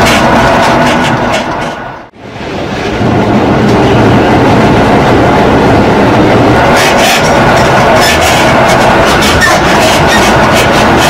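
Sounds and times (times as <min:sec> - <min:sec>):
train traction motors rumbling: 0:00.0 - 0:11.0.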